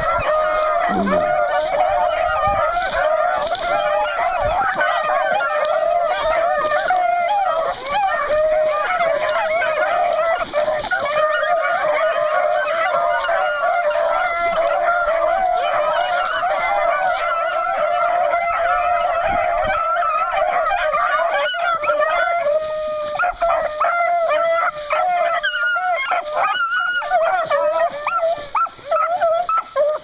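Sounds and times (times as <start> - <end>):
pack of hounds baying: 0.0 - 30.0.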